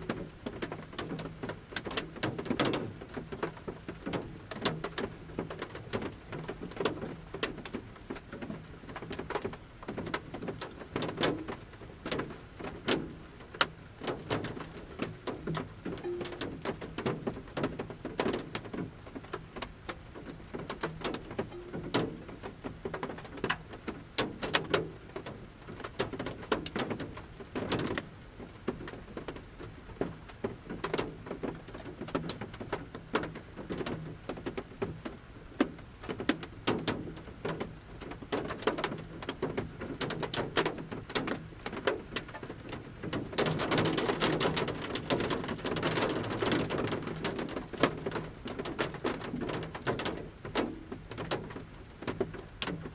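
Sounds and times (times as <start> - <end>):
light rain patter: 0.0 - 52.9
raindrops tapping on roof: 0.0 - 52.9.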